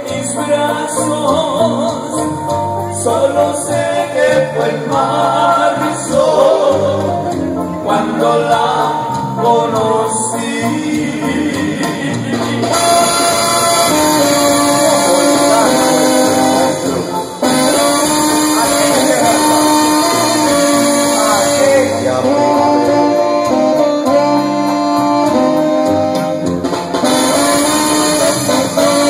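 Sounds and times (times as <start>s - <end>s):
brass band playing: 0.0s - 29.0s.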